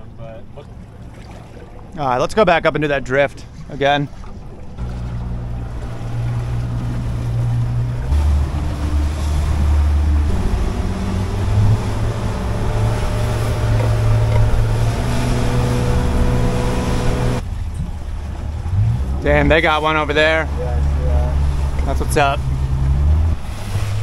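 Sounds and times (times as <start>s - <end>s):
outboard motor running: 0.0s - 24.0s
water rushing past boat: 0.0s - 24.0s.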